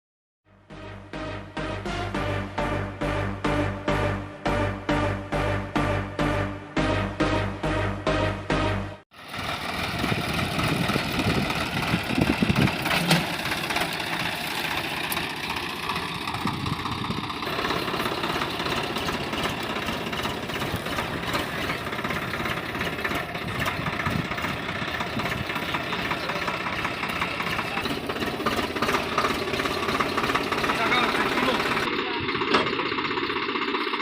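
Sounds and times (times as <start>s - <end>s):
excavator diesel engine running: 0.7s - 34.0s.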